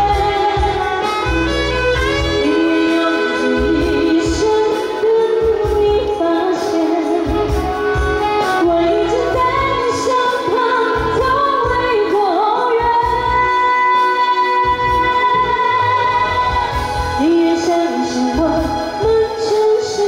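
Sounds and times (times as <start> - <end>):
amplified keyboard: 0.0 - 20.0
saxophone: 0.0 - 20.0
woman singing into a microphone: 0.0 - 20.0.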